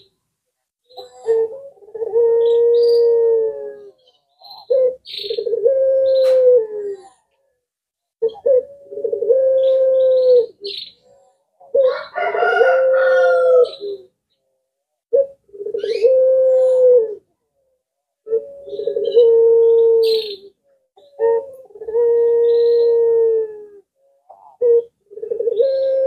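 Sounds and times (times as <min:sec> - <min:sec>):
dove cooing: 0:00.9 - 0:07.3, 0:08.2 - 0:14.2, 0:15.1 - 0:17.3, 0:18.2 - 0:26.0.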